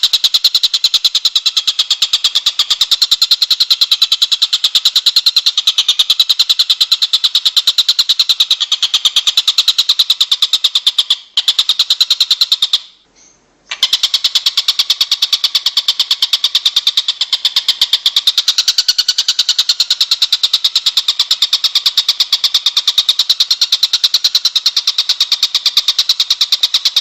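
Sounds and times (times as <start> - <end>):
songbird high trill: 0.0 - 27.0.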